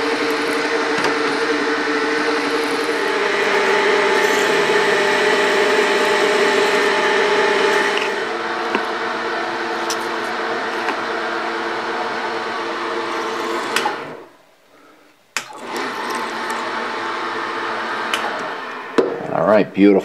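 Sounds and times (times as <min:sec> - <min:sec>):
milling machine motor running: 0:00.0 - 0:14.3, 0:15.4 - 0:19.4.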